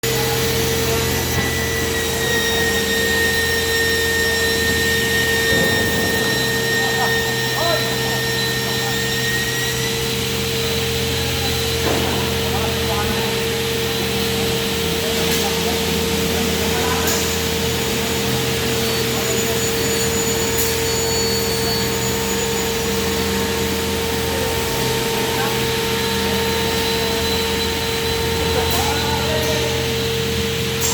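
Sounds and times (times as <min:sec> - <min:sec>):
beam saw whining: 0:00.1 - 0:30.9.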